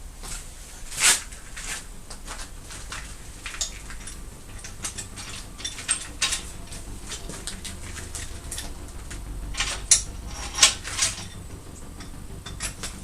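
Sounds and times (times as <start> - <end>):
handling clicks taps and rustles: 1.6 - 13.0.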